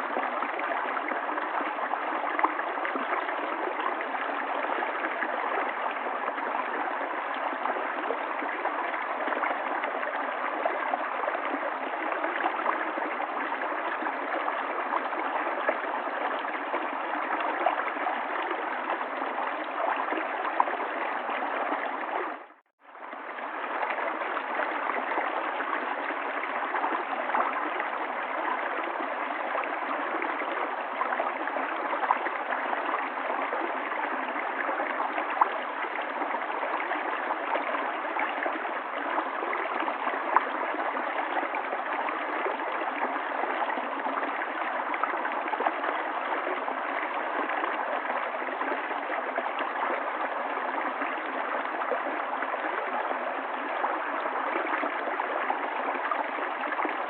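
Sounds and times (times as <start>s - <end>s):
river water flowing and gurgling: 0.0s - 57.0s.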